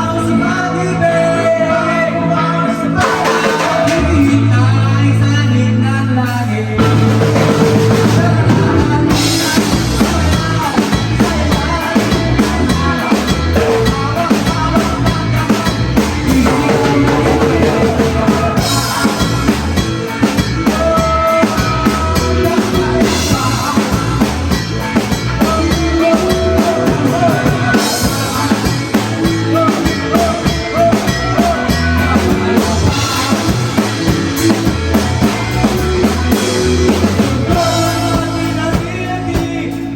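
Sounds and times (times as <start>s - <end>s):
band playing rock music: 0.0s - 39.9s
bass drum: 6.8s - 39.9s.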